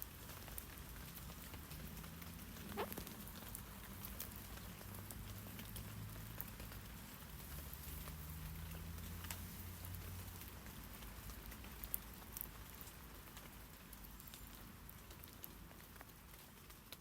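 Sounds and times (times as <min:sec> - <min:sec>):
light rain on leaves: 0:00.0 - 0:17.0.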